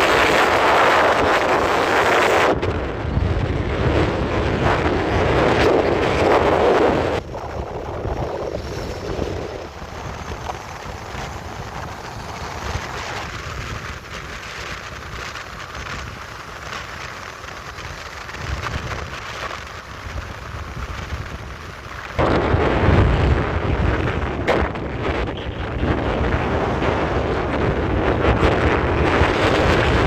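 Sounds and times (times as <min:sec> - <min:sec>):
moving vehicle rumble: 0:00.0 - 0:30.0
wind buffeting microphone: 0:00.0 - 0:30.0.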